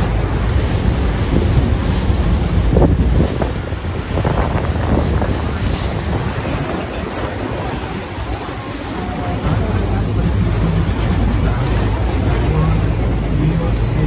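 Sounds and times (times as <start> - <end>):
rushing splashing water: 0.0 - 14.0
wind buffeting microphone: 0.0 - 14.0.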